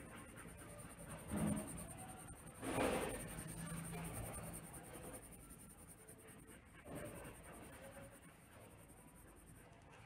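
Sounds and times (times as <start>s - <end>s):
pencil scratching on paper: 0.0s - 9.8s.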